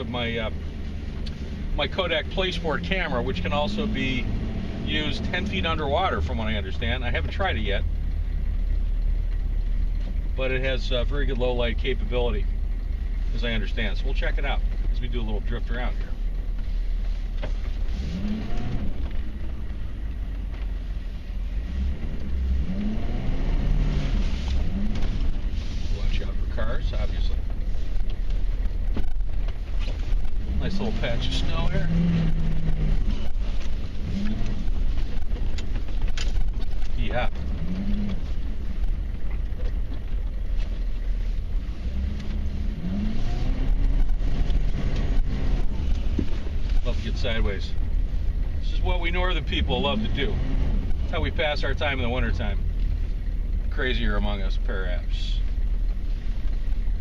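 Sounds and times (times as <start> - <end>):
diesel engine revving from inside cab: 0.0 - 57.0.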